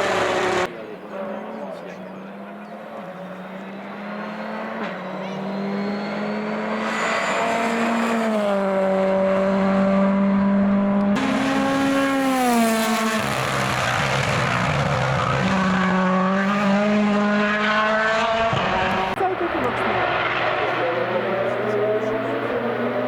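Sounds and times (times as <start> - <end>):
rally car engine at high revs: 0.0 - 23.0.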